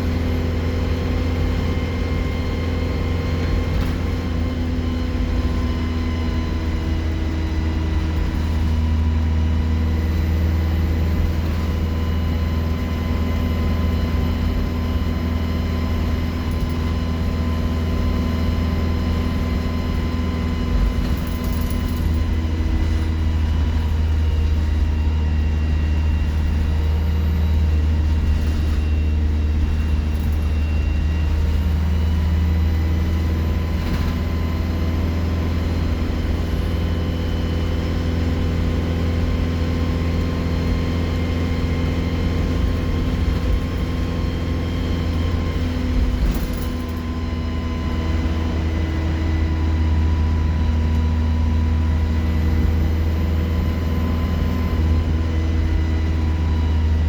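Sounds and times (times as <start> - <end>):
bus engine humming: 0.0 - 57.0
turbocharger whistling: 0.0 - 57.0.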